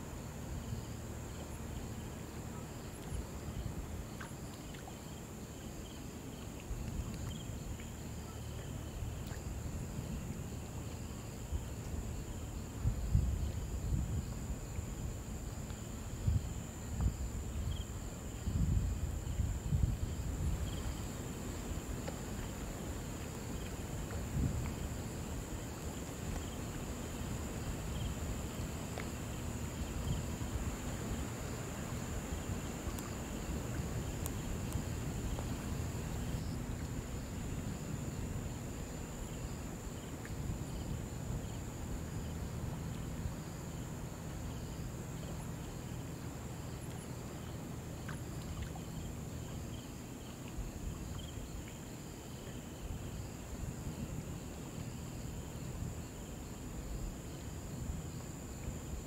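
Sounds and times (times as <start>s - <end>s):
shallow river flowing: 0.0s - 59.0s.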